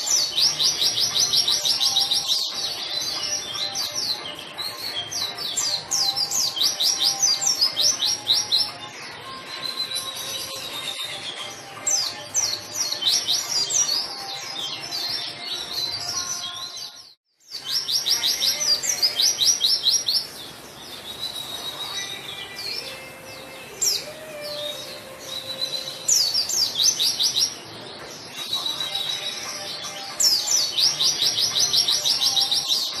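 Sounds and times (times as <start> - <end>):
bird chirping and trilling: 0.0 - 33.0.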